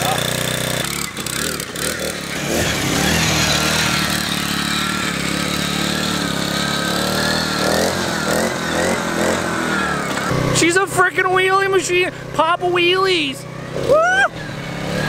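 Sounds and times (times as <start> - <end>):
small engine running on throttle: 0.0 - 15.0.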